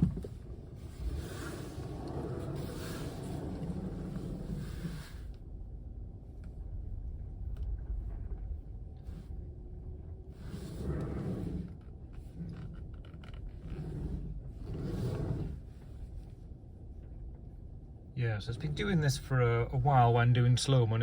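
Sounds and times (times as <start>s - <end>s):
power steering low noise: 0.0s - 21.0s.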